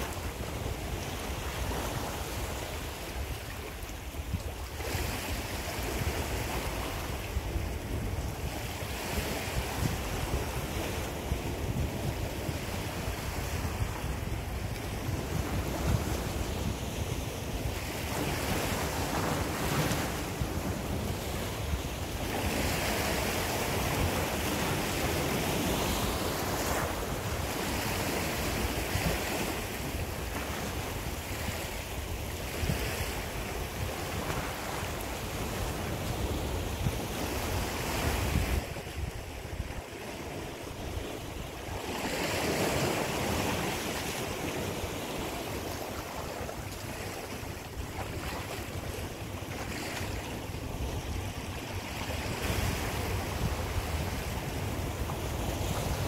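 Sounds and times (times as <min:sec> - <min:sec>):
sea waves breaking on rocks: 0:00.0 - 0:56.0
wind rumble on microphone: 0:00.0 - 0:56.0.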